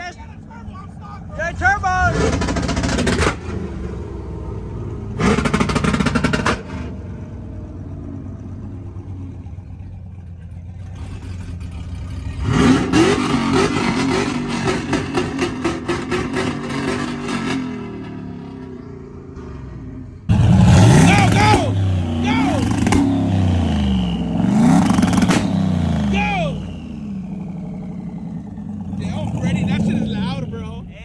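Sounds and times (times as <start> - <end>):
vehicle engine revving: 0.0 - 31.0.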